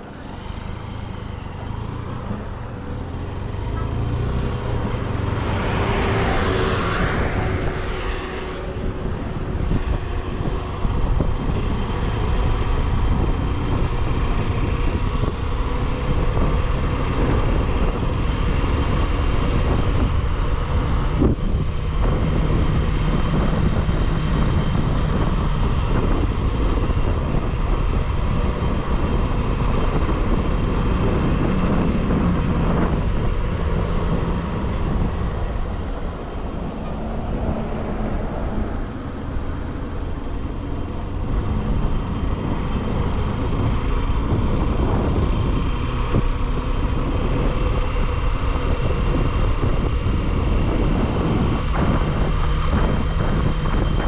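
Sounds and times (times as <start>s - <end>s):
motorcycle engine running: 0.0s - 54.0s
road noise: 0.0s - 54.0s
wind rush on microphone: 0.0s - 54.0s.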